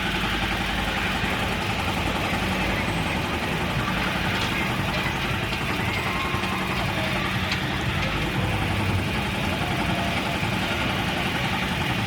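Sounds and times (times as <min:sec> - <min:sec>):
noisy wash: 0:00.0 - 0:12.0
steady engine-like hum: 0:00.0 - 0:12.0.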